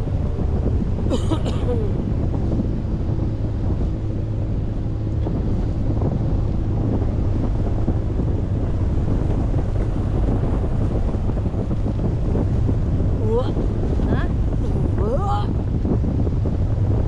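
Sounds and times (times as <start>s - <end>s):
low motor hum: 0.0s - 17.0s
wind buffeting microphone: 0.0s - 17.0s.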